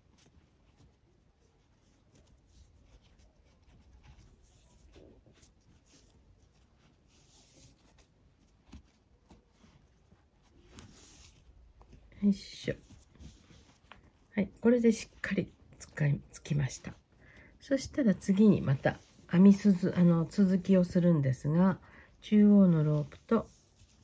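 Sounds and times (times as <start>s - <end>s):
cord rustling: 0.0s - 24.0s.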